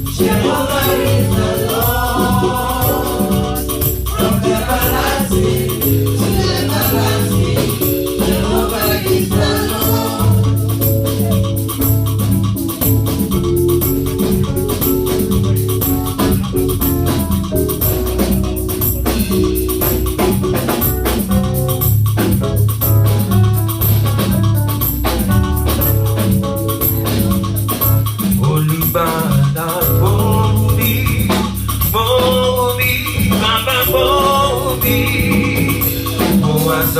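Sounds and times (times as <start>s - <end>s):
organ or keyboard chords: 0.0s - 36.9s
steady beat: 0.0s - 36.9s.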